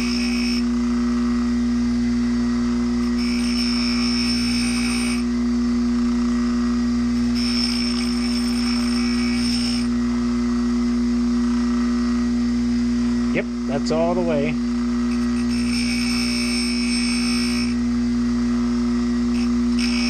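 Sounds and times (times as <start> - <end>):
grinding wheel motor humming: 0.0 - 20.0.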